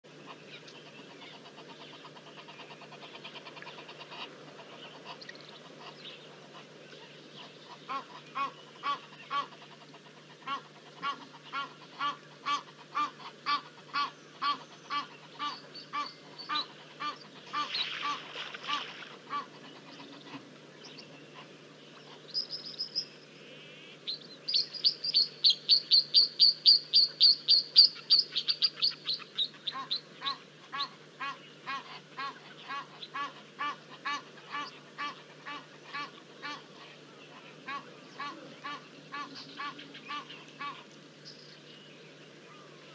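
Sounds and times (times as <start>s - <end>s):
birds honking: 0.3s - 6.7s, 7.4s - 20.4s, 24.6s - 41.0s.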